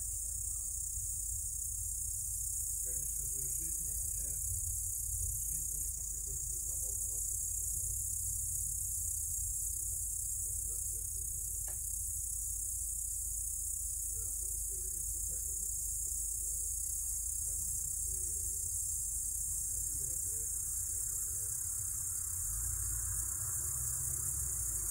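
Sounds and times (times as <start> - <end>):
low steady rumble: 0.0 - 23.8
crickets chirring: 0.0 - 24.9.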